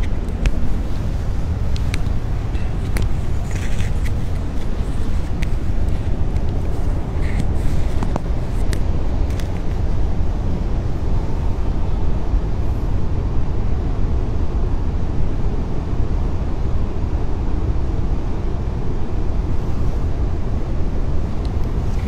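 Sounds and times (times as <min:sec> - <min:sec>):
steady low rumbling: 0:00.0 - 0:22.0.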